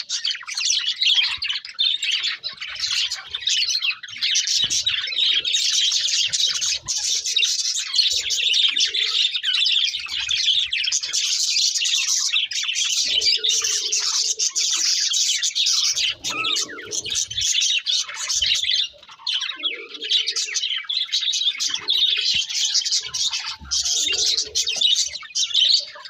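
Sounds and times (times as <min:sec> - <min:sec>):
budgerigars chattering and warbling: 0:00.0 - 0:26.0.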